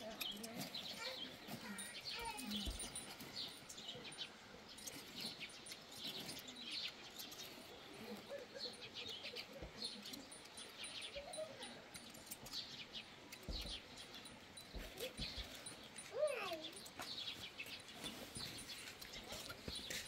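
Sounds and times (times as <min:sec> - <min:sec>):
faint small bird chirps: 0:00.0 - 0:20.0.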